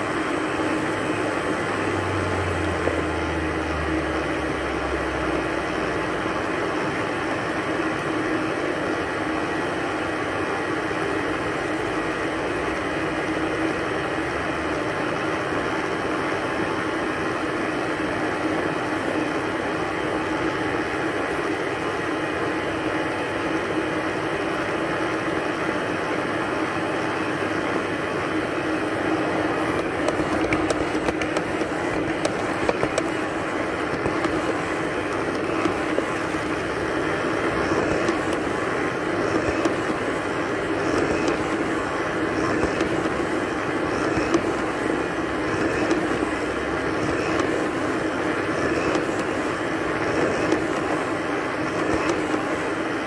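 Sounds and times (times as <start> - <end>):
robot vacuum cleaner whirring: 0.0 - 25.2, 25.8 - 53.0.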